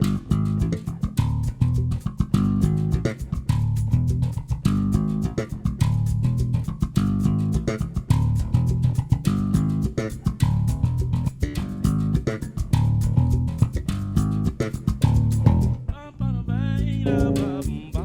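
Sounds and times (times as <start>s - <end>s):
percussion beat: 0.0s - 16.0s, 16.6s - 18.0s
plucked bass guitar: 0.0s - 18.0s.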